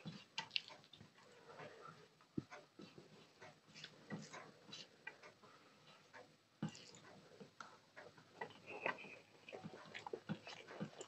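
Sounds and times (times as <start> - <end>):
fingers mixing food on steel plate: 0.0 - 11.0.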